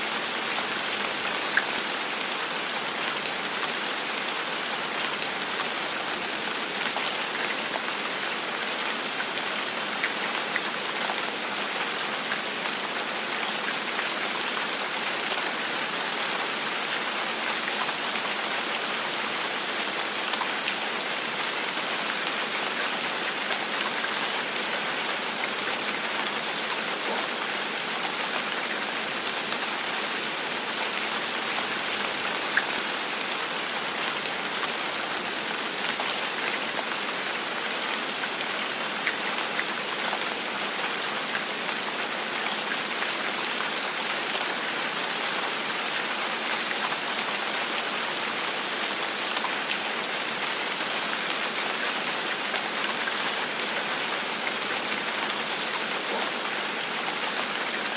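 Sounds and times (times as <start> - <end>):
gentle rain falling: 0.0 - 57.9.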